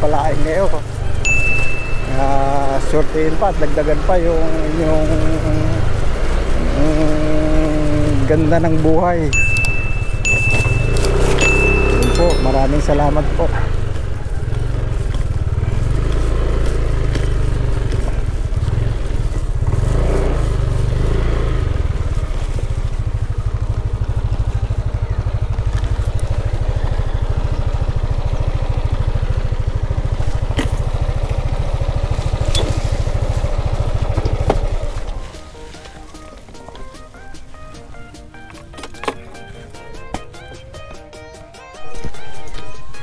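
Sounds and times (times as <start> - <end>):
motorcycle engine rumbling: 0.0 - 43.0.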